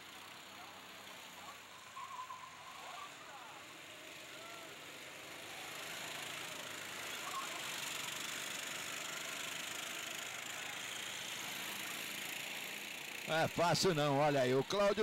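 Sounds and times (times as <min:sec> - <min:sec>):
go-kart engines buzzing: 0:00.0 - 0:15.0.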